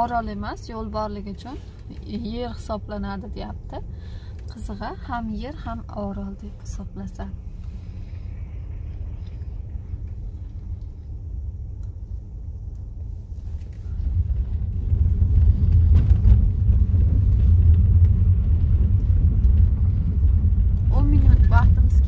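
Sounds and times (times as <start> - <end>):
car driving rumble: 0.0 - 22.0.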